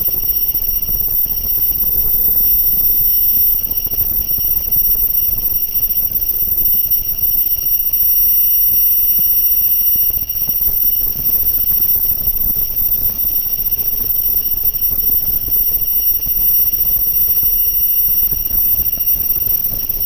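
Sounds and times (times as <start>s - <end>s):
high-pitched spindle whine: 0.0s - 20.0s.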